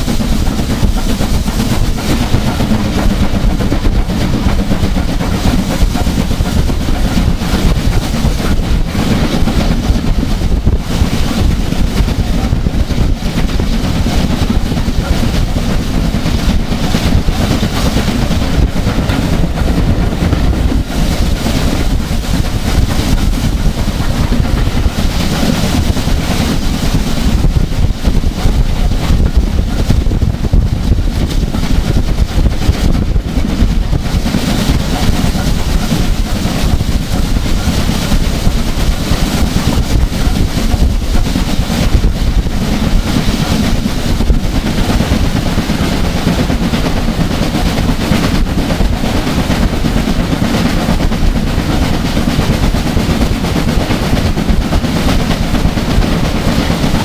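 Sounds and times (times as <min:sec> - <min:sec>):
steam train running: 0:00.0 - 0:57.0
wind buffeting microphone: 0:00.0 - 0:57.0.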